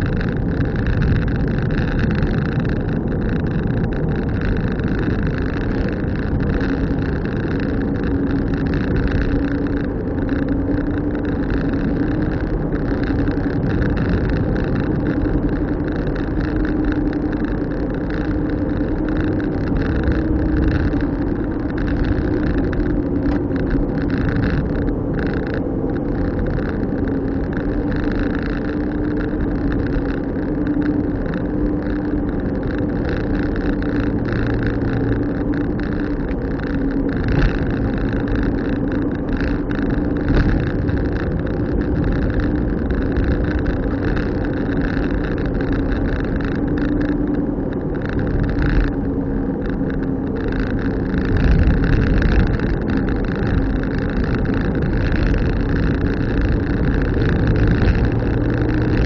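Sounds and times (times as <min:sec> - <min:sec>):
car engine drone: 0:00.0 - 0:59.0
road noise: 0:00.0 - 0:59.0.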